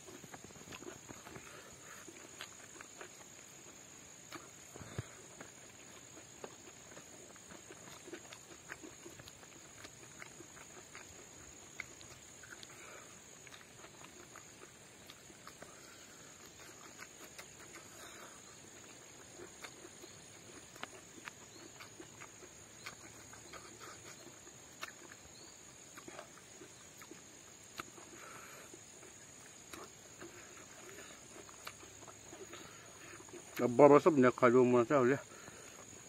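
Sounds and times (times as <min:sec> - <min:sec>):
wet chewing and smacking: 0:00.0 - 0:36.0.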